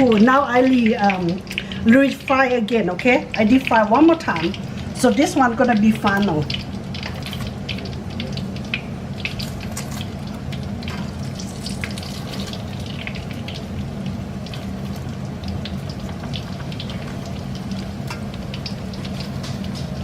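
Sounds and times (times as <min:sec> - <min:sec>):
food deep-frying in hot oil: 0:00.0 - 0:20.0
low steady hum: 0:00.0 - 0:20.0.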